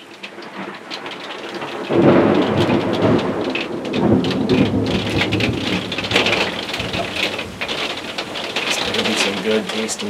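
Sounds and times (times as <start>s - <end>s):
rain pattering on a roof: 0.0s - 10.0s
thunder rumbling: 0.4s - 10.0s.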